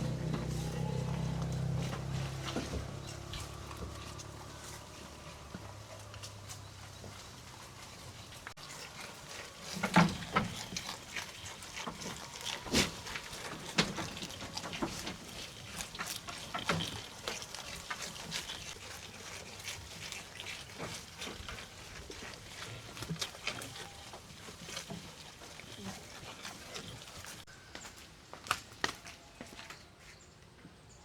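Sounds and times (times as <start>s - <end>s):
goats feeding on leaves: 0.0s - 30.4s.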